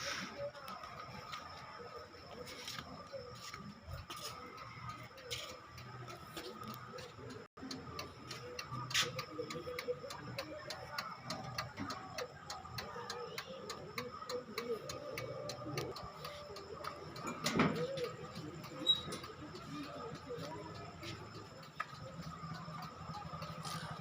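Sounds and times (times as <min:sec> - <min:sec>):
turn-signal relay ticking: 0:00.7 - 0:24.0.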